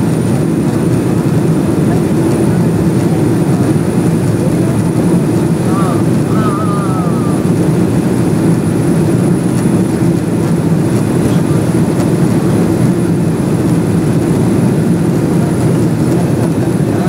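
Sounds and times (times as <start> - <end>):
jet cabin engine rush: 0.0 - 17.0.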